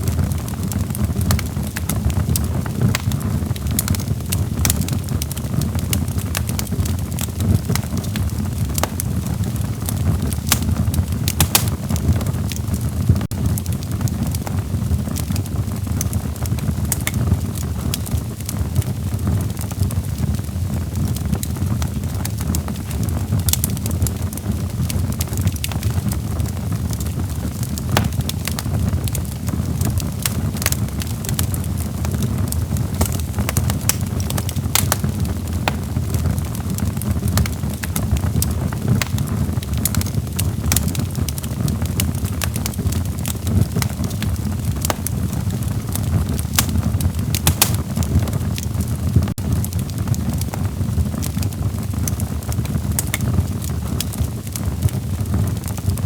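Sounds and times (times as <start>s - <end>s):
fire crackling and popping: 0.0s - 56.0s
low rumble of flames: 0.0s - 56.0s.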